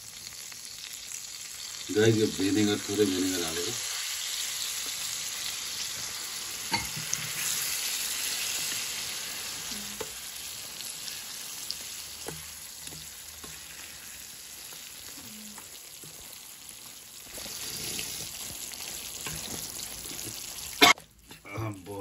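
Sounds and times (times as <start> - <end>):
hot oil sizzling: 0.0 - 22.0.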